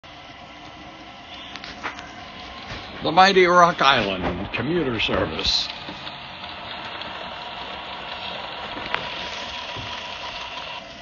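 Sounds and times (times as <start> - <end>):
model train rolling hiss: 0.1 - 11.0.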